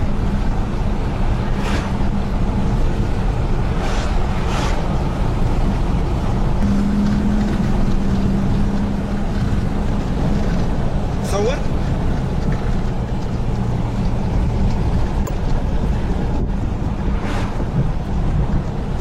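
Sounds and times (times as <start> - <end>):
rushing noise: 0.0 - 19.0.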